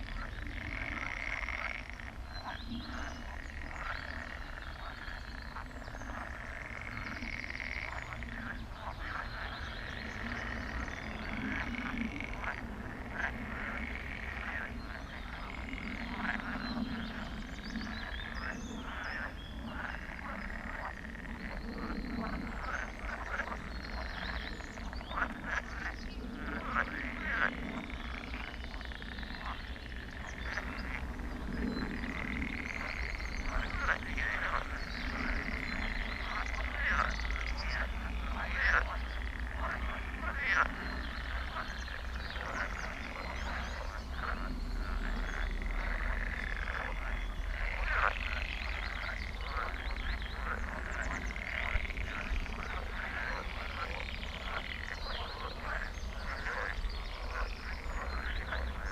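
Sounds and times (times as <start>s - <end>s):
frogs croaking: 0.0s - 58.9s.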